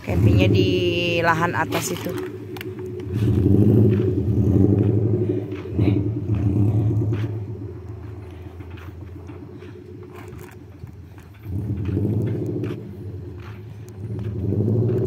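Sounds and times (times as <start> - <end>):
van engine running: 0.0 - 15.0.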